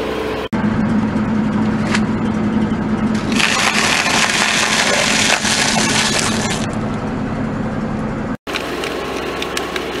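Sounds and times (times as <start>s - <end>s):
steady engine hum: 0.0s - 10.0s.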